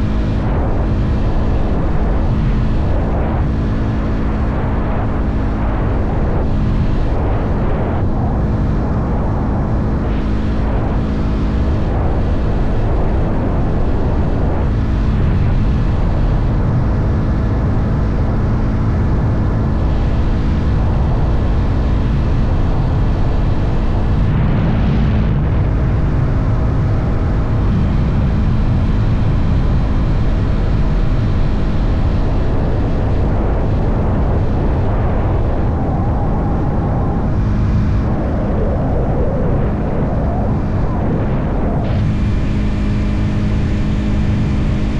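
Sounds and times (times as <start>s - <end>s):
wind and road noise: 0.0s - 44.9s.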